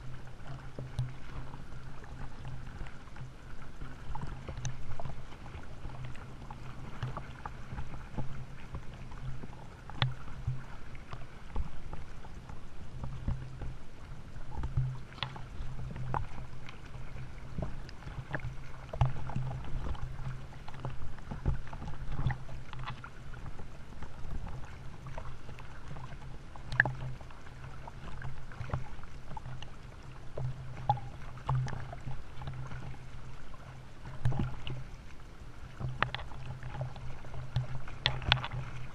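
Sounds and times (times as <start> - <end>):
sea water sloshing: 0.0 - 38.9.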